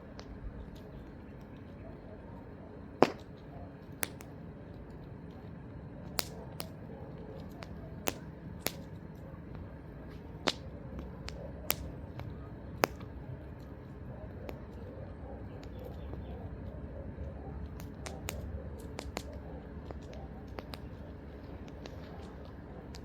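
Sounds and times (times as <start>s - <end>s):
campfire crackling and popping: 2.8s - 23.0s.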